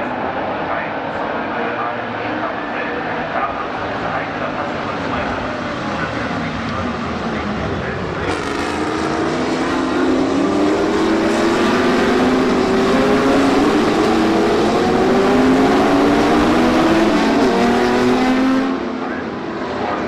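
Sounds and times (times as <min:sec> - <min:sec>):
racing car engines accelerating: 0:00.0 - 0:20.0.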